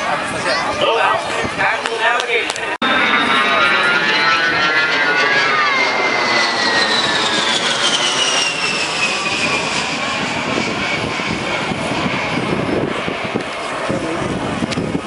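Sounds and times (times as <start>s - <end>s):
jet engine whine falling in pitch: 0.0s - 15.0s
rushing jet roar: 0.0s - 15.0s.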